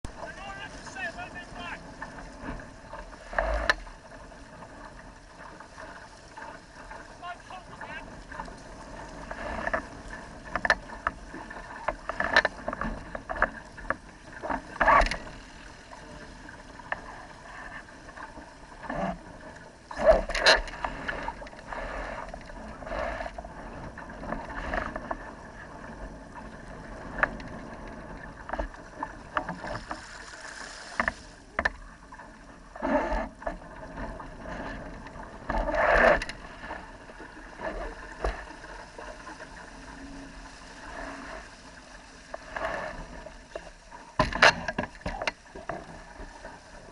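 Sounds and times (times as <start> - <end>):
water rushing along hull: 0.0 - 46.9
waves slapping against bow: 0.0 - 46.9.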